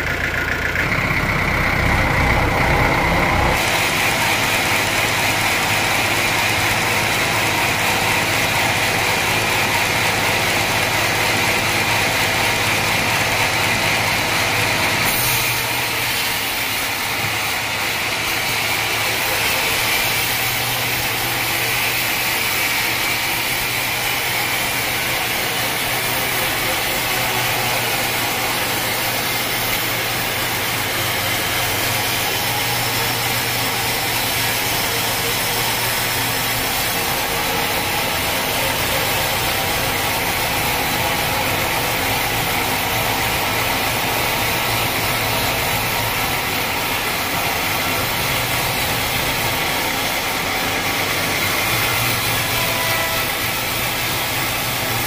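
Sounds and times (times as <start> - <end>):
sawmill cutting log: 0.0 - 55.0.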